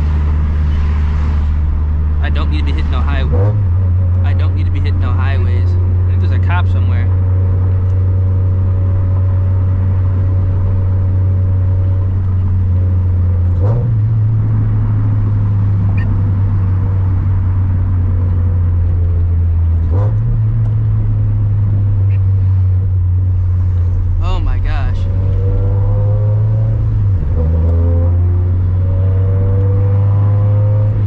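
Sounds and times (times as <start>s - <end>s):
car engine drone: 0.0s - 31.0s
road noise: 0.0s - 31.0s.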